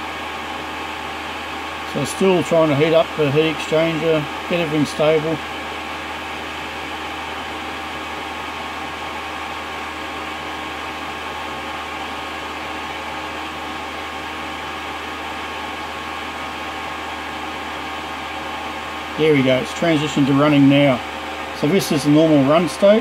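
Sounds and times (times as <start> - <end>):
faint constant whine: 0.0 - 23.0
heater fan whirring: 0.0 - 23.0.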